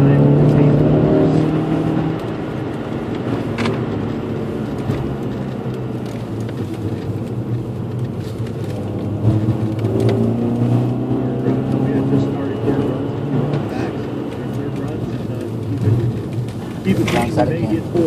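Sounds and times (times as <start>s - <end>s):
car engine from inside cabin: 0.0s - 18.0s.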